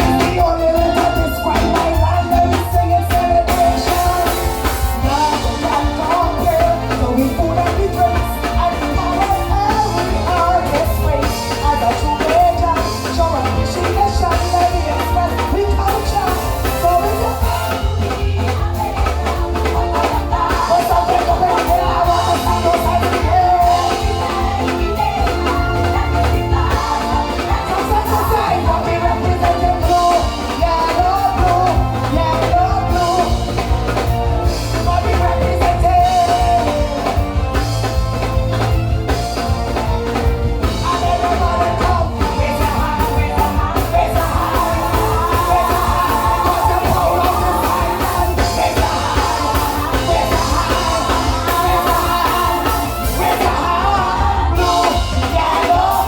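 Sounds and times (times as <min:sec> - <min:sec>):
soca music through sound system: 0:00.0 - 0:56.0.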